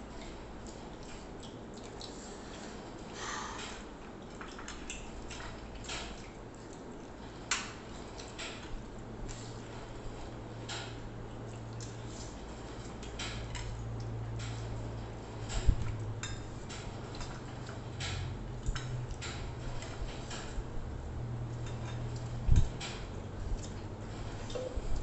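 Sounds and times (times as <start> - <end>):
chewing: 0.0 - 20.8, 21.4 - 25.0
low steady hum: 0.0 - 25.0.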